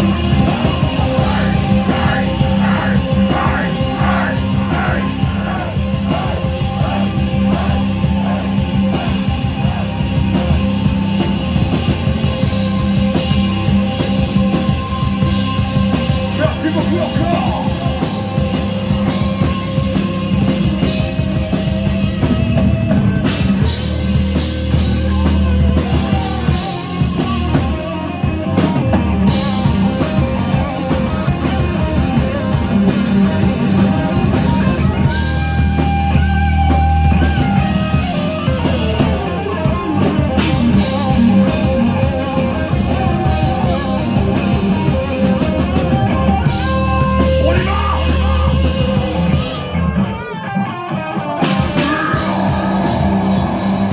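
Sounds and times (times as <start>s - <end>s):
bass: 0.0s - 53.9s
drum kit: 0.0s - 53.9s
electric guitar: 0.0s - 53.9s.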